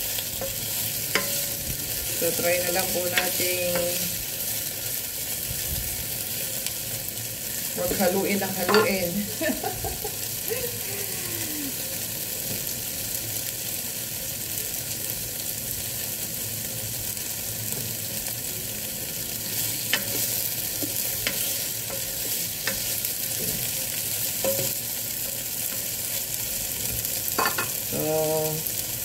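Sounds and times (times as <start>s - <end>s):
tofu sizzling in hot oil: 0.0s - 29.0s.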